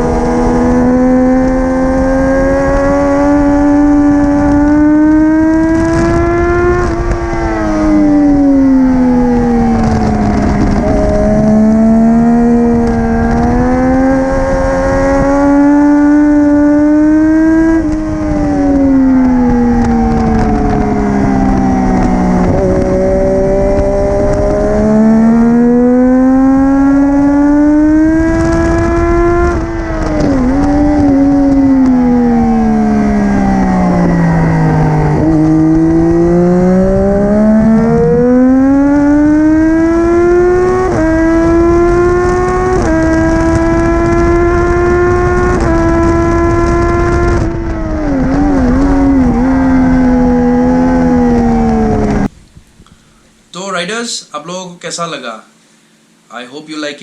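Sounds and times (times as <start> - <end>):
motorcycle engine at high revs: 0.0 - 52.3.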